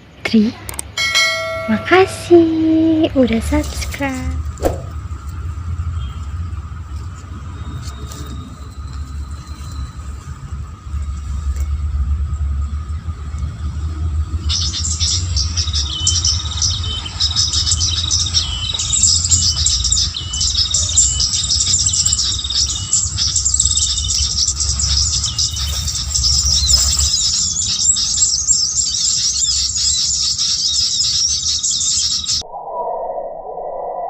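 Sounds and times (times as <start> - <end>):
steady low rumble: 0.8 - 34.0
small birds chirping: 1.6 - 32.4.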